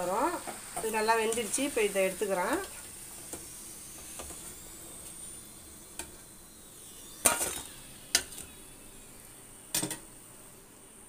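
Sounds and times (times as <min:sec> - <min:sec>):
frying oil sizzling: 0:00.0 - 0:11.0.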